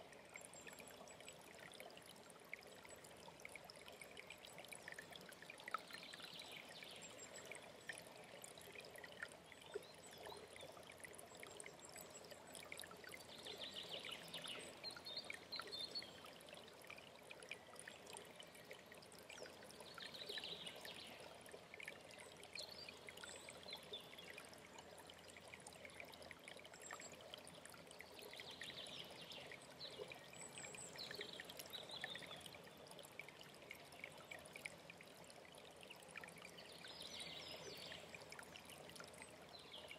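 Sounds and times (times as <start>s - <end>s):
mountain stream trickling: 0.0s - 39.9s.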